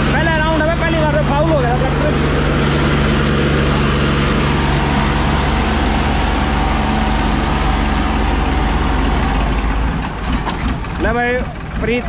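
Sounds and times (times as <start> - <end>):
tractor diesel engines under load: 0.0 - 12.0.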